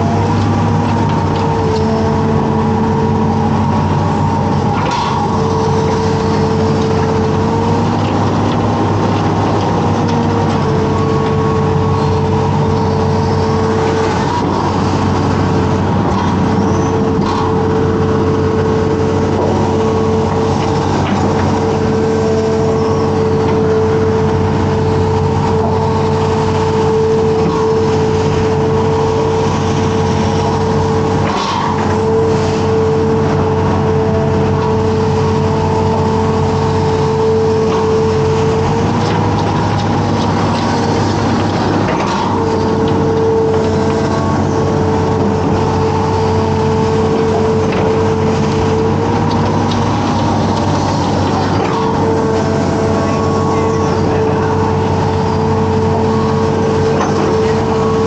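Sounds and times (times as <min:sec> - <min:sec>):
diesel engine under load: 0:00.0 - 0:58.0
steady whine: 0:00.0 - 0:58.0.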